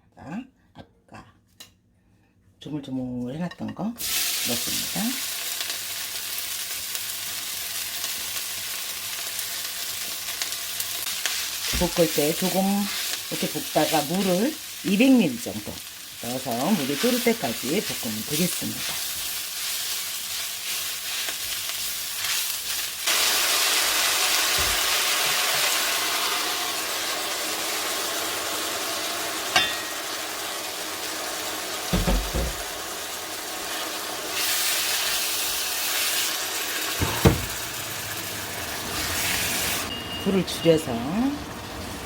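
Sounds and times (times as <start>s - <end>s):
greens sizzling in frying pan: 4.0s - 42.0s.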